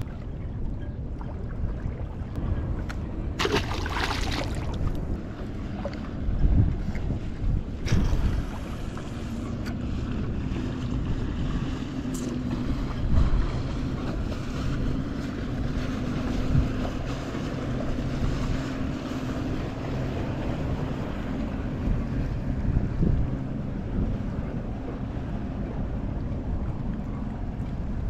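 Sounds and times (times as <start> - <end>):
wind rumbling on microphone: 0.0 - 28.0.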